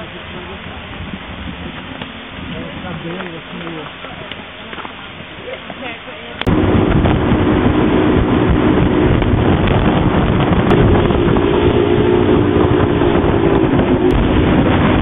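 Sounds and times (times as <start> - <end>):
vehicle engine running: 0.0 - 15.0
wind noise on microphone: 0.0 - 15.0.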